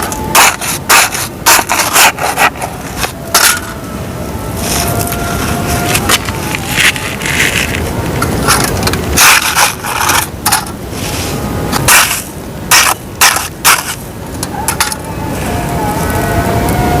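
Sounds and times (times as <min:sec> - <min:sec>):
dry dirt scraping and crumbling: 0:00.0 - 0:03.8, 0:04.6 - 0:16.8.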